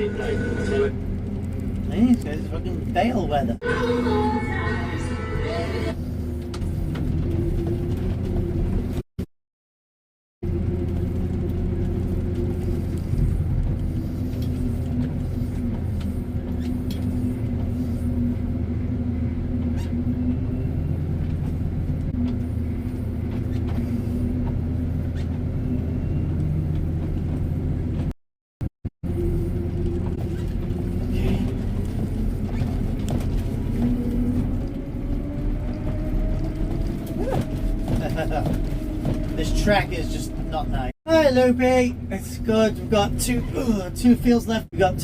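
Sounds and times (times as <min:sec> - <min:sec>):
tractor engine running: 0:00.0 - 0:09.0, 0:10.4 - 0:28.1, 0:29.0 - 0:45.0.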